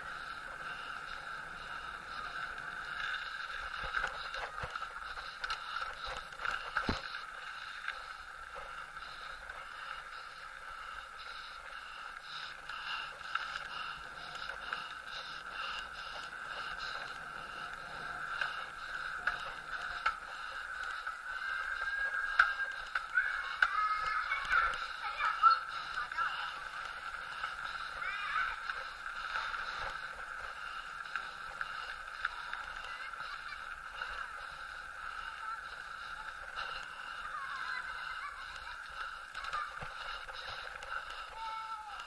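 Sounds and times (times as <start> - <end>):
bicycle rolling whir: 0.0 - 42.0.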